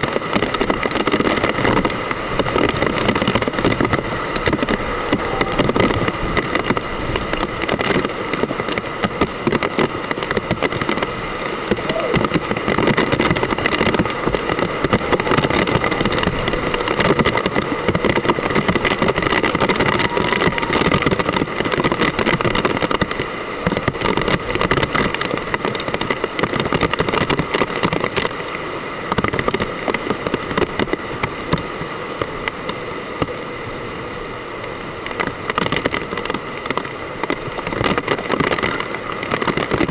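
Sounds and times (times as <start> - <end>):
hard rain pouring: 0.0 - 39.9.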